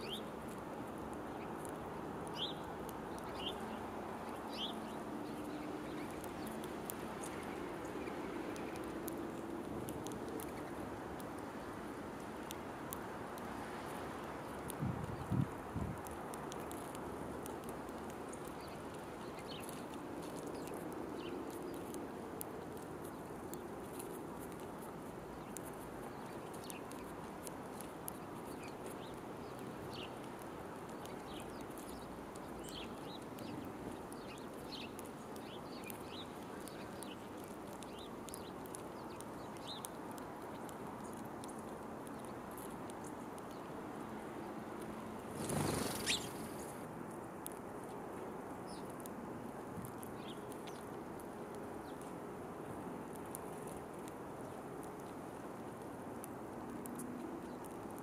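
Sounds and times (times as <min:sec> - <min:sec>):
outdoor background noise: 0:00.0 - 0:58.0
small birds chirping: 0:00.0 - 0:58.0.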